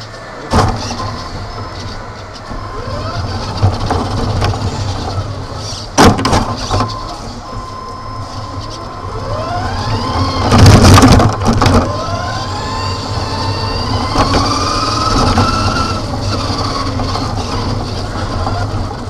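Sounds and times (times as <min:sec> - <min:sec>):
small vehicle motor whining: 0:00.0 - 0:19.0
loud rattling clatter: 0:00.5 - 0:07.0, 0:10.1 - 0:19.0.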